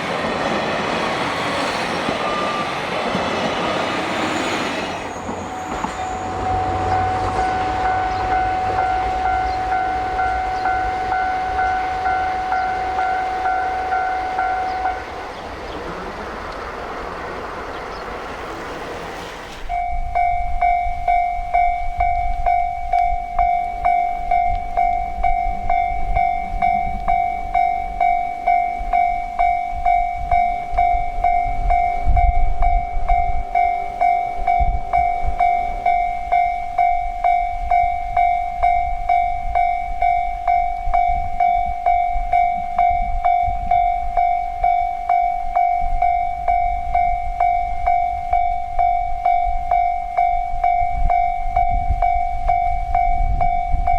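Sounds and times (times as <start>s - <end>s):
railroad crossing bell ringing: 0.0s - 53.9s.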